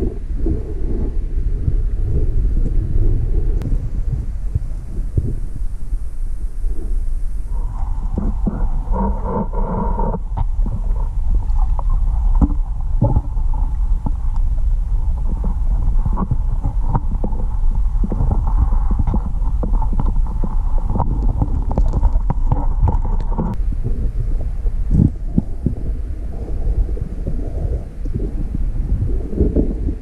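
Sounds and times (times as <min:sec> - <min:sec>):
muffled underwater rumble: 0:00.0 - 0:30.0.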